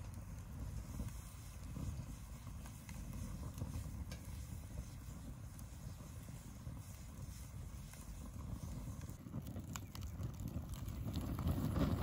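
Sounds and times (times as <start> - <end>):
bamboo crackling and cracking: 0.0 - 12.0
flame rushing: 0.0 - 12.0.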